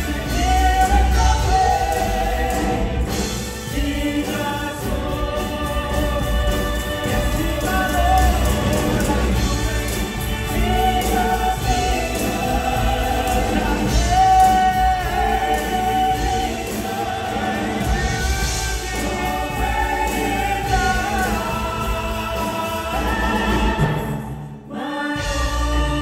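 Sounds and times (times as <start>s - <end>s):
instrumental backing: 0.0s - 24.5s
gospel group singing in harmony: 0.0s - 26.0s.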